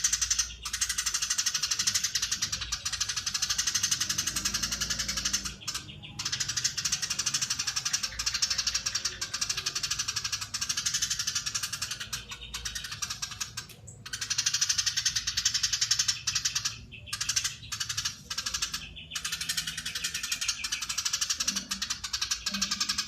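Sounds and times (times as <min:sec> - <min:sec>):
sparrow chattering: 0:00.0 - 0:23.0.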